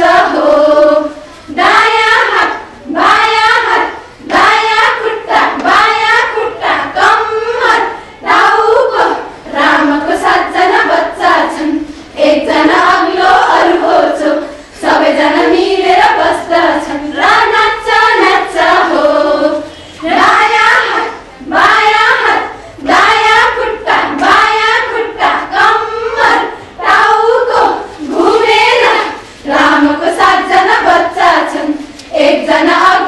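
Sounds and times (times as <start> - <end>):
women singing together: 0.0 - 33.0.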